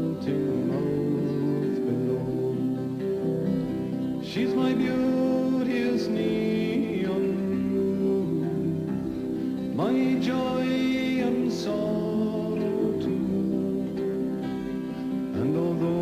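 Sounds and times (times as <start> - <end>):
acoustic guitar folk music: 0.0 - 16.0.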